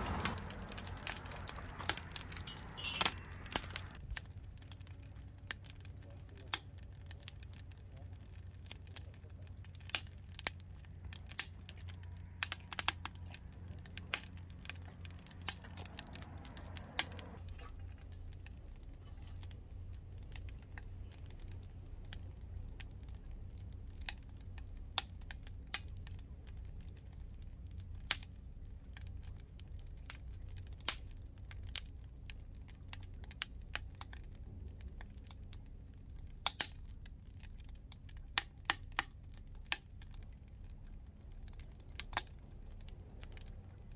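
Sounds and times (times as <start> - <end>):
low steady hum: 0.0 - 43.9
wood fire crackling and popping: 0.0 - 43.9.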